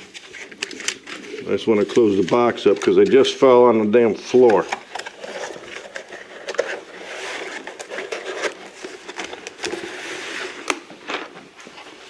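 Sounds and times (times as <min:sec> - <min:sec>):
toy cars packed into box: 0:00.3 - 0:03.4, 0:04.0 - 0:11.3.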